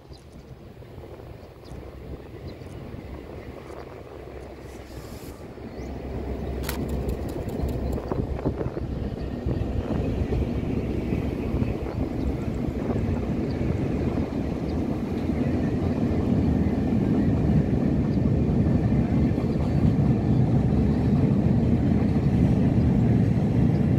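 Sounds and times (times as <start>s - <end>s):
freight train rumbling past: 0.0s - 23.9s
wind buffeting microphone: 0.0s - 23.9s.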